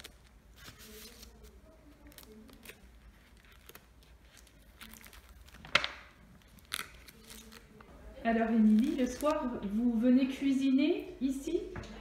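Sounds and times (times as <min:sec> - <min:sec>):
photo album pages rustling: 0:00.0 - 0:10.0.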